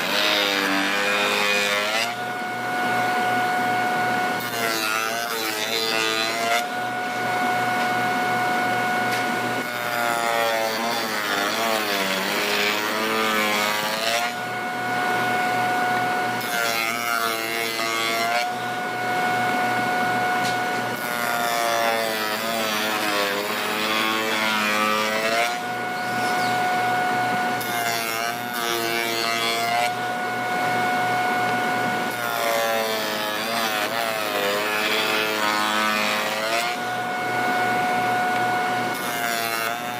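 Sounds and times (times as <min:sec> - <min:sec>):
power machine cutting wood: 0:00.0 - 0:39.9.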